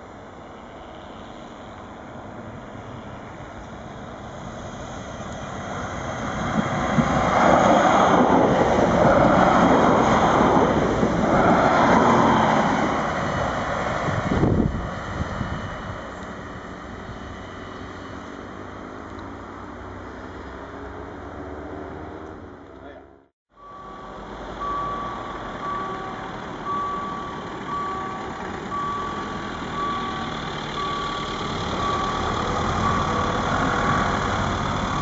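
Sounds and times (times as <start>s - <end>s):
diesel train passing: 0.0s - 22.6s, 23.5s - 35.0s.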